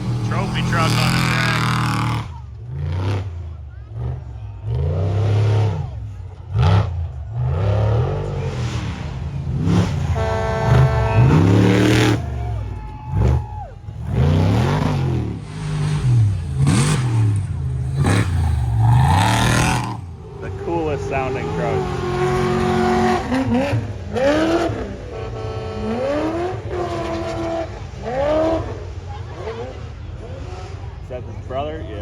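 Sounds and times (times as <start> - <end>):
race truck engines revving: 0.0 - 32.0.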